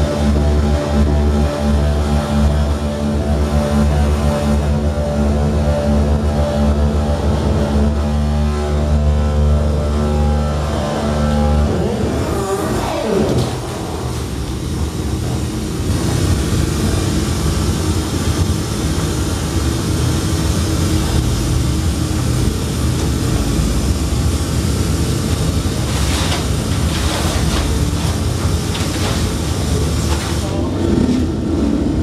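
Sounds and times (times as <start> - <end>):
low rumbling drone: 0.0 - 32.0.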